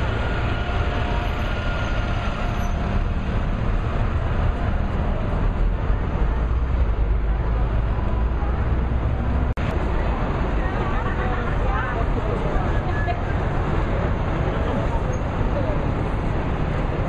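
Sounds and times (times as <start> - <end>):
traffic rumbling past: 0.0 - 17.0.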